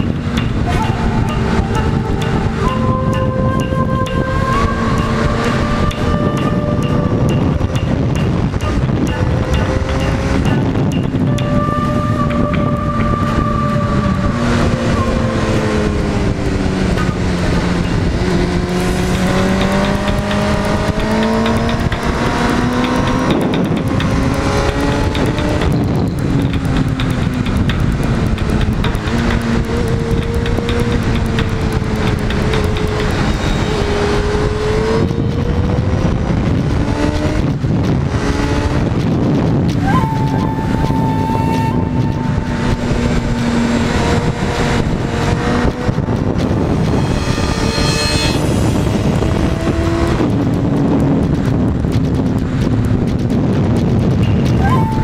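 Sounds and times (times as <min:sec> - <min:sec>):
motorcycle engine revving: 0:00.0 - 0:55.0
wind on microphone: 0:00.0 - 0:55.0.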